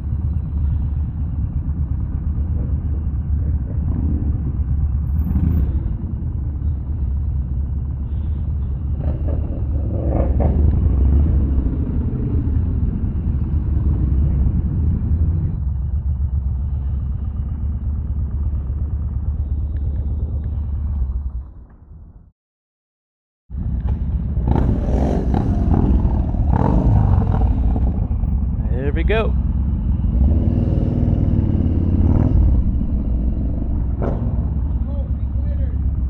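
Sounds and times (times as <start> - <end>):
motorcycle engine rumbling: 0.0 - 22.3, 23.5 - 36.0.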